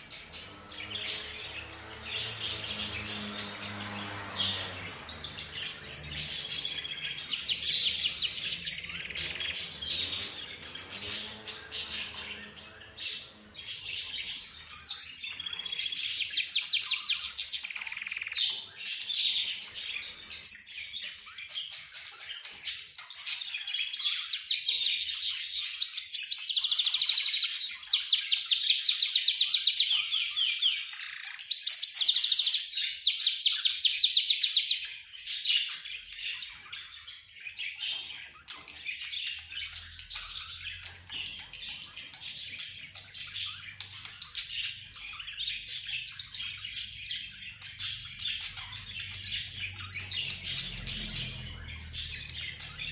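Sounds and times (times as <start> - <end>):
caged birds chirping and singing: 0.0 - 52.9.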